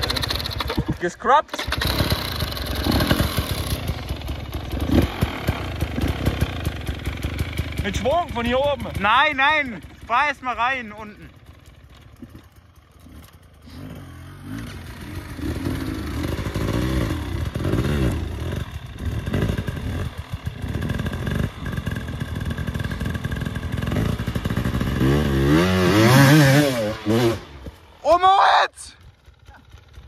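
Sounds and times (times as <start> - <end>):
motorcycle engine revving: 0.0 - 28.0, 29.0 - 30.0.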